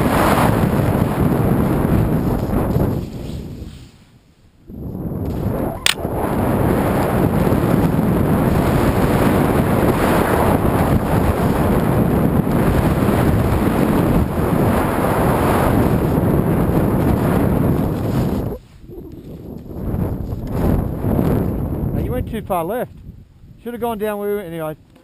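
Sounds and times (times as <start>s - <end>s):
wind buffeting microphone: 0.0s - 3.9s, 4.6s - 25.0s.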